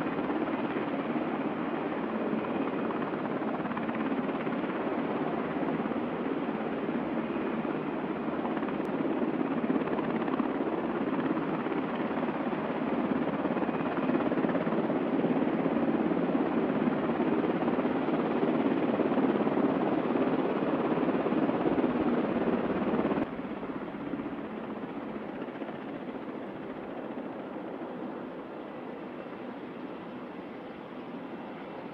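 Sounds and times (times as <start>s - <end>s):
helicopter engines rushing: 0.0s - 31.9s.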